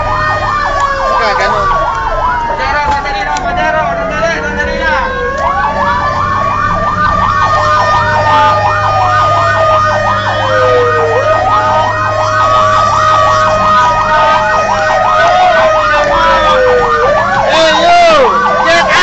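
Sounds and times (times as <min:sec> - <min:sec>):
fire truck siren yelp: 0:00.0 - 0:19.0
siren wail: 0:00.0 - 0:19.0
truck engine running: 0:00.0 - 0:19.0.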